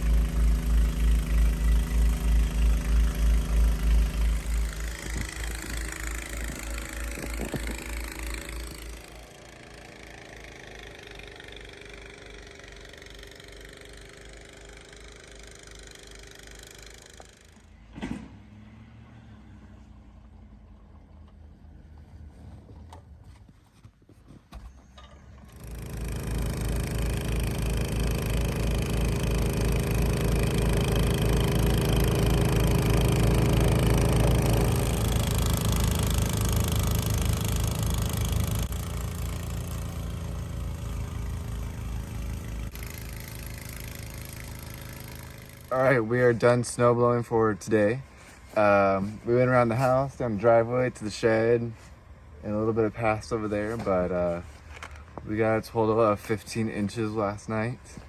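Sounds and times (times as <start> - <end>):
snowblower engine running: 0.0 - 22.3, 24.9 - 58.0.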